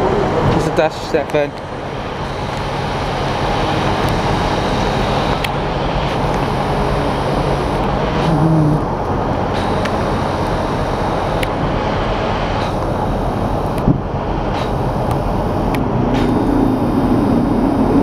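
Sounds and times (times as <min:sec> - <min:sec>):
diesel train rumble: 0:00.0 - 0:18.0
low hum: 0:01.5 - 0:18.0.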